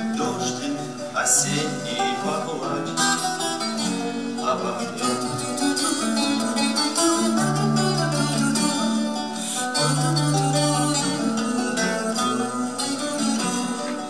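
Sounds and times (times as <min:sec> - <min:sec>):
acoustic guitars strummed and picked: 0:00.0 - 0:14.0.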